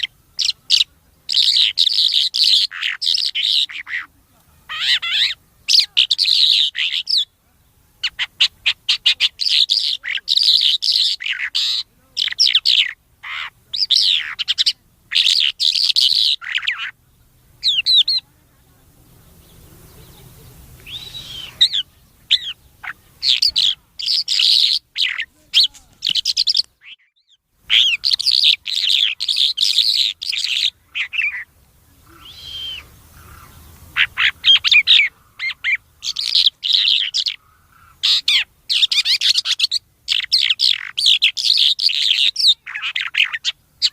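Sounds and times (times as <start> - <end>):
songbird chirping and whistling: 0.0 - 4.1, 4.7 - 18.3, 19.1 - 37.4, 38.0 - 43.9.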